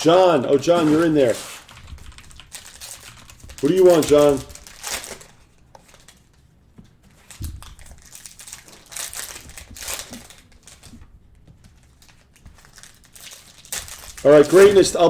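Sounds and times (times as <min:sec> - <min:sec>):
foil wrappers crinkling: 0:00.5 - 0:15.0.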